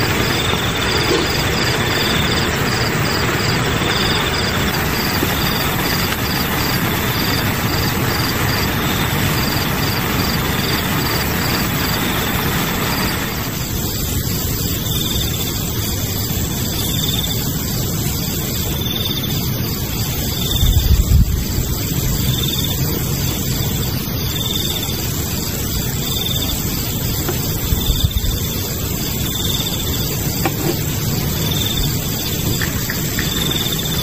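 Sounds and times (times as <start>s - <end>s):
night insects chirping: 0.0s - 34.0s.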